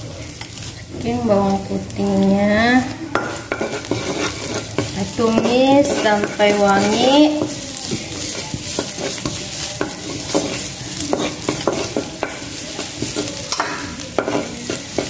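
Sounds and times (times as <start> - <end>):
garlic sizzling in a wok: 0.0 - 15.0
wooden spatula scraping a pan: 0.4 - 15.0.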